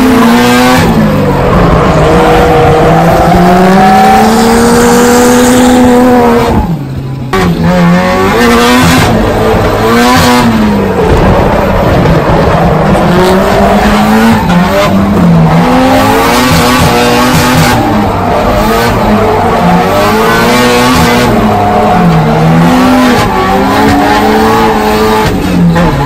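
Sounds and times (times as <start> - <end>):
car engine revving: 0.0 - 26.0
tyres skidding and squealing: 0.0 - 26.0.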